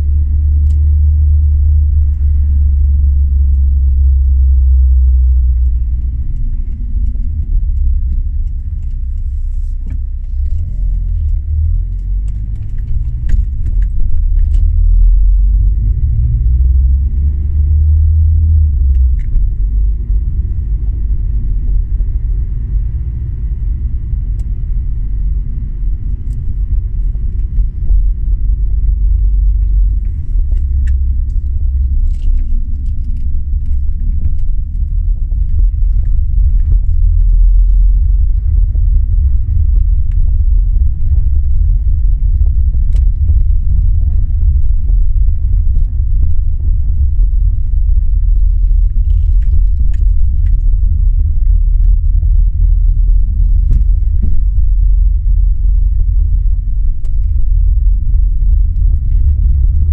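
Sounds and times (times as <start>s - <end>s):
car tyre and road rumble: 0.0s - 59.9s
stones ticking under tyres: 0.0s - 59.9s.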